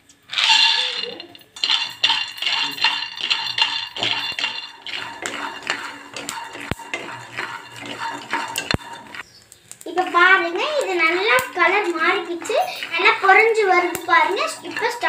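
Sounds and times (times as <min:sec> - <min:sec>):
peanuts rattling in a pan: 0:00.2 - 0:15.0.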